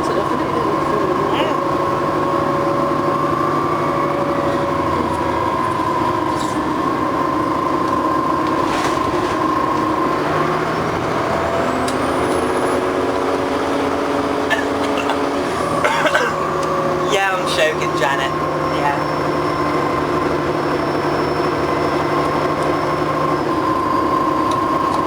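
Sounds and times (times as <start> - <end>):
train rumbling inside carriage: 0.0 - 25.0.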